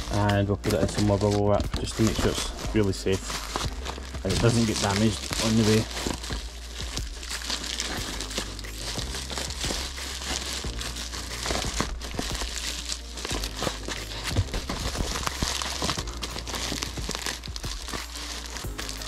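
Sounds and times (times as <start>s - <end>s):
background music: 0.0s - 19.0s
bubble wrap crinkling: 0.0s - 19.0s.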